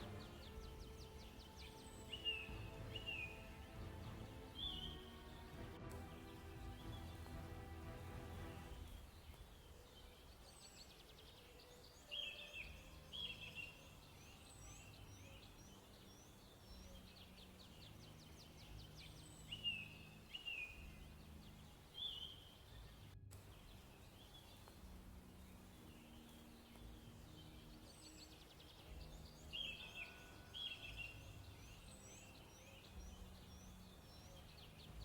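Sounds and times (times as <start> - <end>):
faint birdsong chirps and trills: 0.0 - 35.0.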